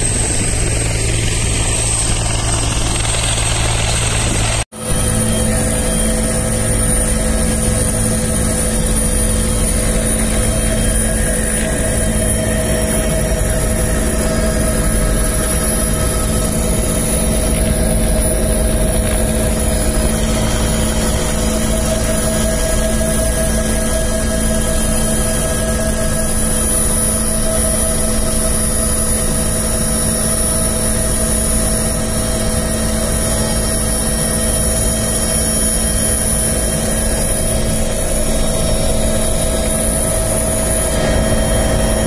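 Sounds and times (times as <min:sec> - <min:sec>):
helicopter engine and rotor drone: 0:00.0 - 0:42.0
high turbine whine: 0:00.0 - 0:42.0.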